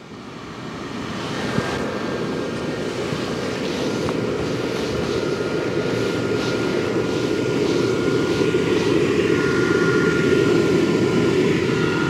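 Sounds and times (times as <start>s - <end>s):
mechanical drone: 0.0s - 12.0s
thin high whine: 0.0s - 12.0s.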